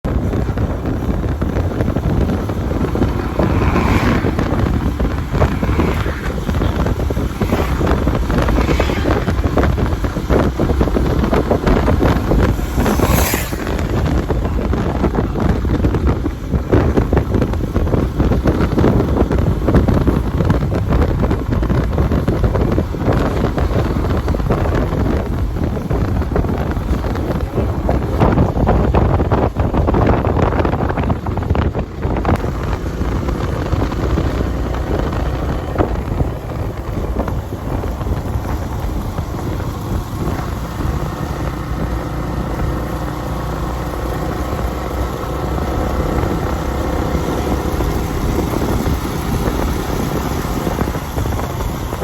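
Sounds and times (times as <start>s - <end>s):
steady low rumble: 0.0s - 52.0s
wind buffeting microphone: 0.0s - 52.0s.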